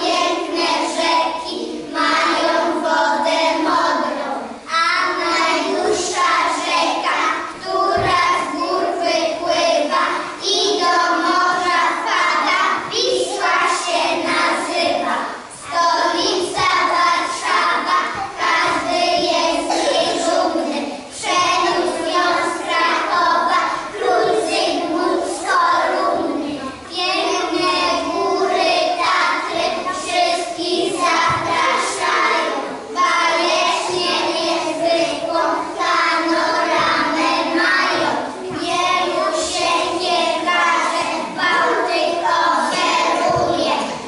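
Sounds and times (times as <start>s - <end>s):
young children singing: 0.0s - 44.0s.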